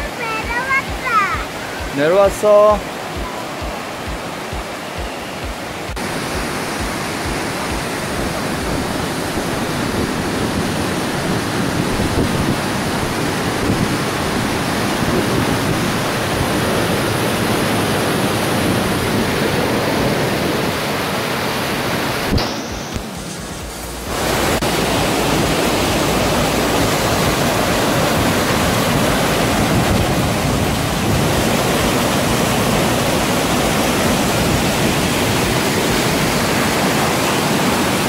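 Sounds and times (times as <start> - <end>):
stream rushing over boulders: 0.0 - 38.0.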